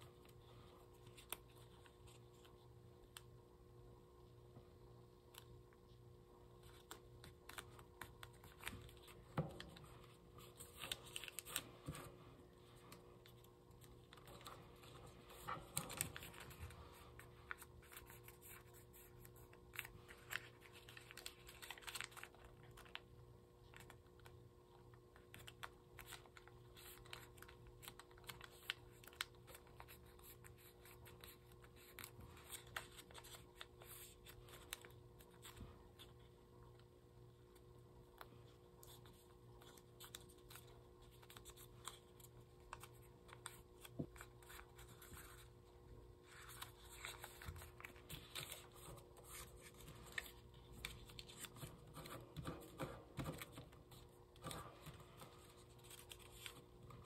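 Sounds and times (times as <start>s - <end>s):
paper being folded: 0.1s - 3.3s, 6.5s - 24.4s, 25.1s - 36.3s, 38.2s - 57.0s.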